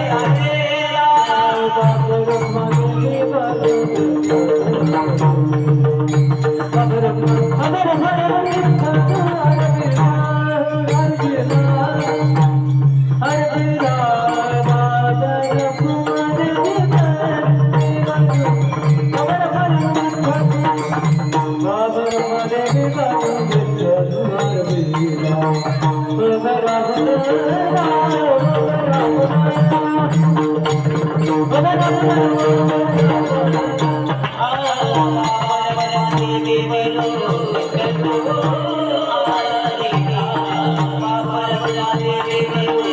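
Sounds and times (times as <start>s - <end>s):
hand drum percussion: 0.0s - 42.9s
man singing devotional song: 0.0s - 42.9s.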